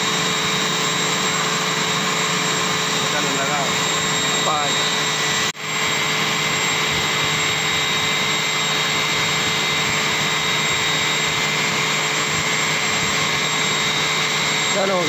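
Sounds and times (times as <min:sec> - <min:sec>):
high-pitched whining tones: 0:00.0 - 0:15.0.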